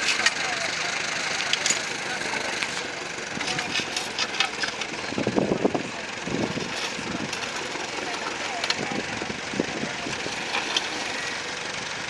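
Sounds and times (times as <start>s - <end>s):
voices in background: 0.0s - 11.8s
tractor engine running: 0.0s - 12.0s.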